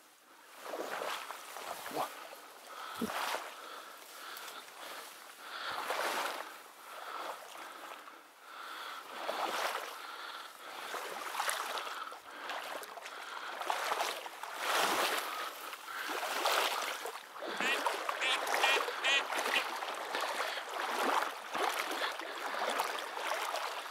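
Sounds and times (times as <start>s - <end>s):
water swishing and splashing: 0.4s - 23.9s.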